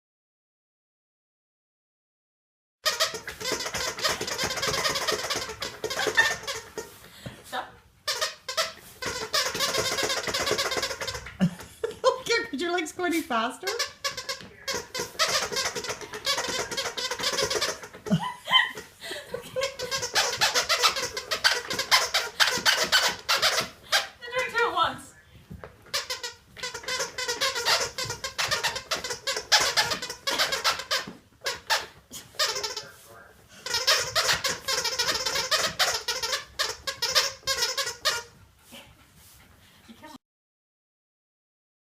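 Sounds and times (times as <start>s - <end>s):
rubber squeaky toy squeaking: 2.8s - 24.9s, 25.7s - 38.4s.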